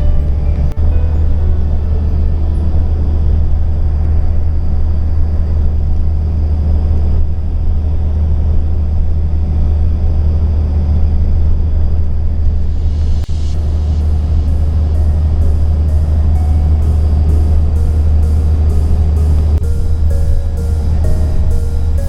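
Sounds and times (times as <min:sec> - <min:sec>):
car interior road rumble: 0:00.0 - 0:22.0.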